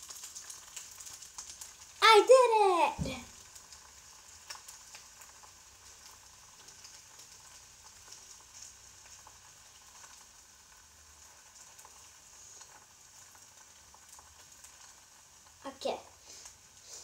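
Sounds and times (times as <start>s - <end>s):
egg sizzling in a pan: 0.0s - 17.0s.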